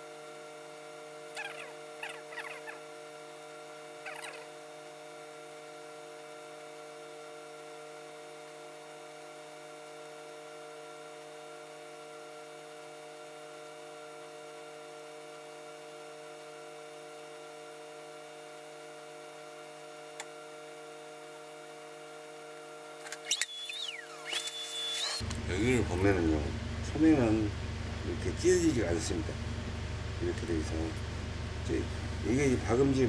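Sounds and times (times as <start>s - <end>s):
electrical hum: 0.0s - 14.5s, 18.6s - 33.0s.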